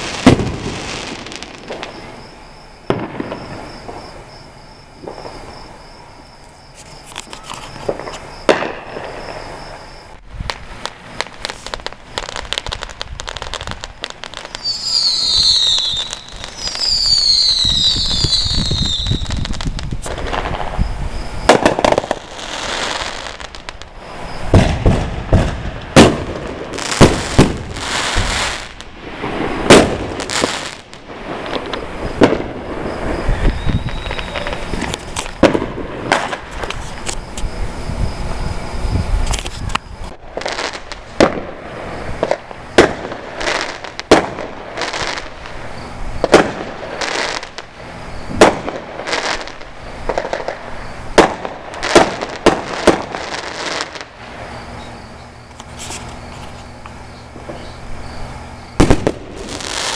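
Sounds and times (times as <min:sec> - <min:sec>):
fireworks banging and crackling: 0:00.0 - 0:59.9
high falling firework whistles: 0:00.0 - 0:59.9.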